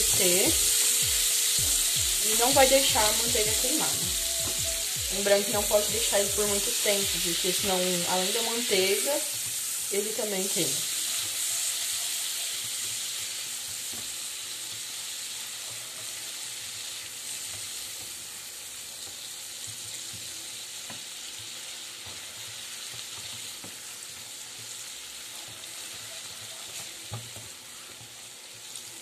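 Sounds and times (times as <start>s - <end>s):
chocolate sizzling in a pan: 0.0s - 29.0s.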